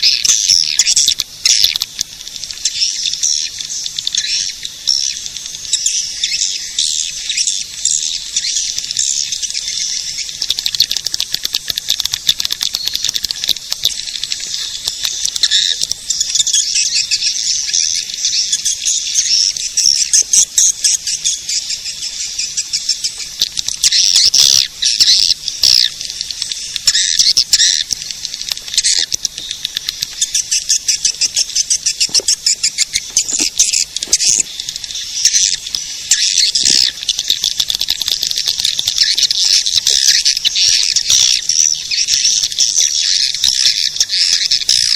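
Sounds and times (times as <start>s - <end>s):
swiftlets twittering and chirping: 0.0s - 44.9s.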